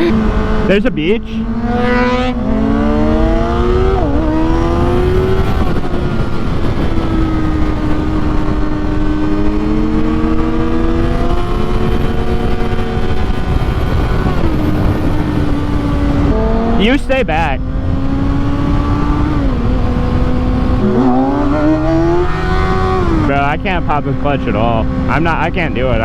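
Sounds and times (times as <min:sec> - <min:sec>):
gear change: 0:00.0 - 0:26.0
motorcycle engine accelerating: 0:00.0 - 0:26.0
wind rush: 0:01.4 - 0:23.5.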